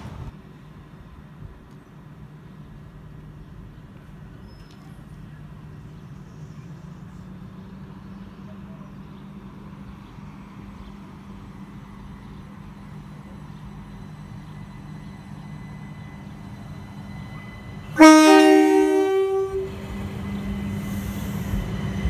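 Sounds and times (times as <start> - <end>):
electric train approaching: 0.0 - 22.0.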